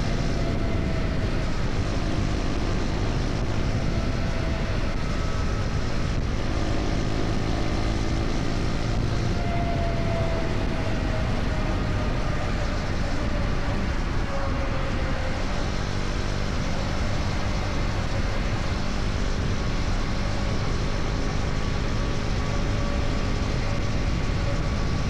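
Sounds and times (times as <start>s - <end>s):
motorcycle engine cruising: 0.0s - 25.0s
wind and road noise: 0.0s - 25.0s.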